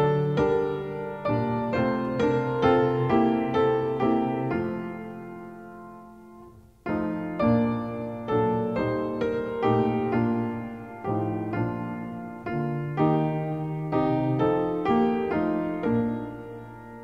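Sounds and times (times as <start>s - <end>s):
slow piano carol: 0.0s - 17.0s.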